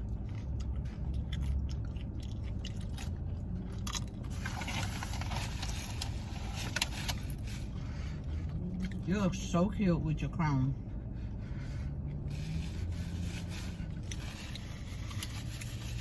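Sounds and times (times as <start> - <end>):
chewing and crunching food: 0.0 - 9.4, 10.8 - 16.0
low steady rumble: 0.0 - 16.0.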